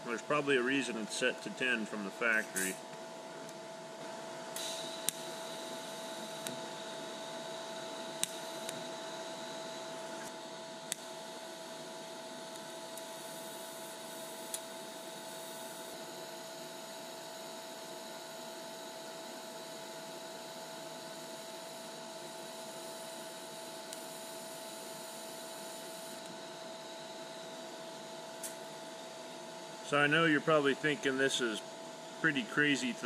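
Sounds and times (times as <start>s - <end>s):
welder cooling fan: 0.0s - 33.0s
welding arc hum and hiss: 0.0s - 33.0s.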